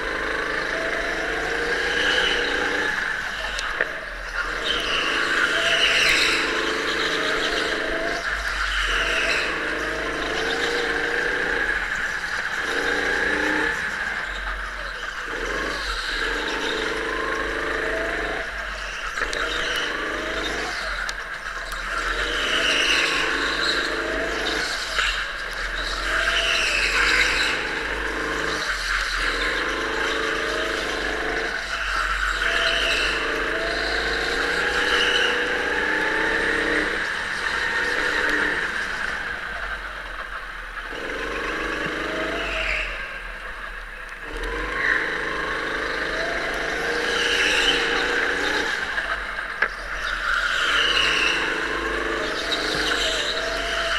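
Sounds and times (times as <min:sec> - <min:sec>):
go-kart motor: 0:00.0 - 0:53.9.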